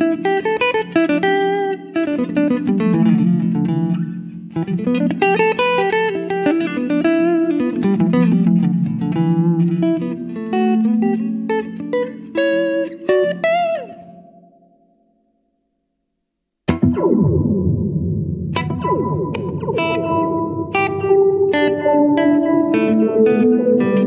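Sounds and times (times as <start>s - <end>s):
electric guitar with reverb: 0.0s - 15.6s, 16.7s - 24.0s.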